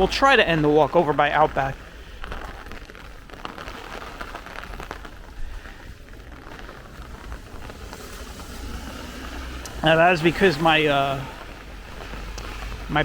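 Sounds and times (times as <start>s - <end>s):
rain on wet pavement: 0.0s - 13.0s.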